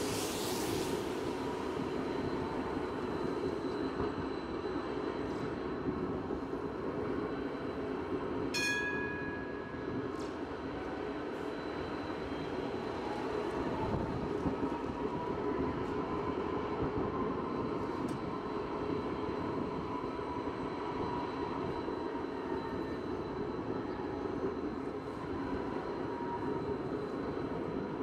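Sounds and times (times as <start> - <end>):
tram rolling on track: 0.0 - 28.0.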